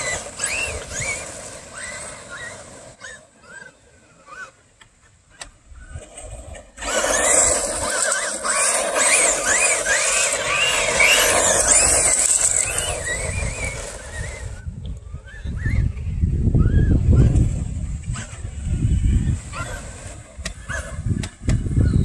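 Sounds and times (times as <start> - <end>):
rc truck motor whining: 0.0 - 4.6, 5.3 - 22.0.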